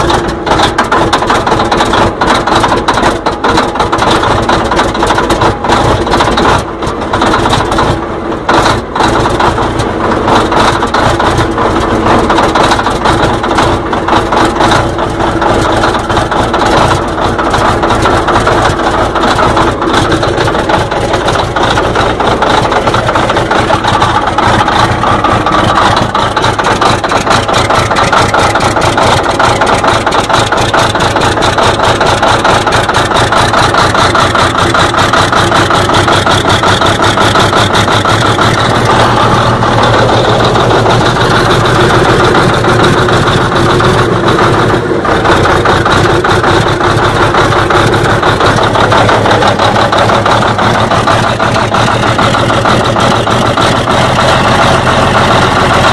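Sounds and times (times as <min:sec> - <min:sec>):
diesel engine turning over: 0:00.0 - 0:55.9.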